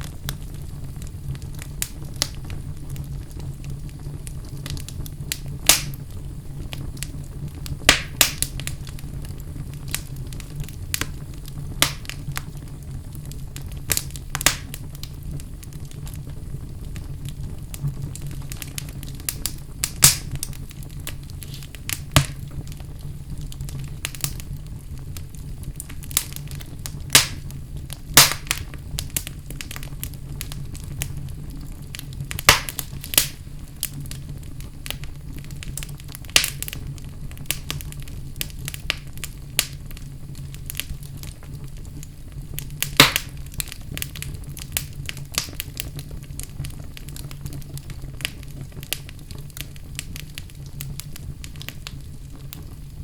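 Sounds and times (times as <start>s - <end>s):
fire flames rumbling: 0.0s - 53.0s
wood crackles and pops: 0.0s - 53.0s.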